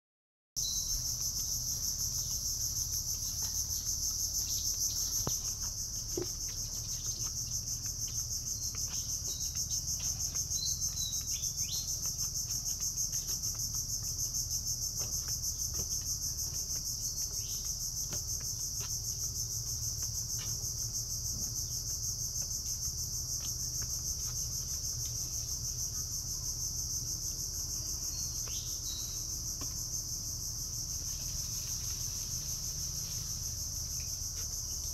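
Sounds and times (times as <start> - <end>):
insect chorus: 0.6 - 34.9.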